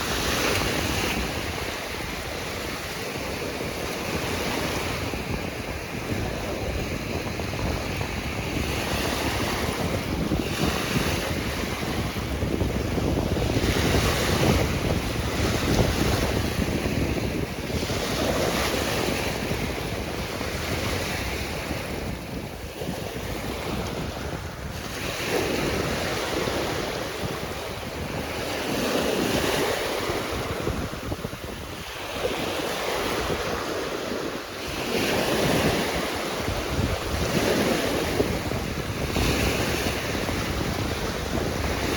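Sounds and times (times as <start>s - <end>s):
sea waves breaking: 0.0s - 41.9s
wind buffeting microphone: 0.0s - 41.9s.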